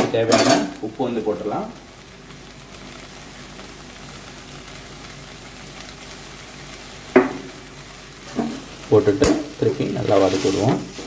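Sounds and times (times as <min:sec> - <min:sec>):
greens sizzling in a pan: 0:00.0 - 0:11.0.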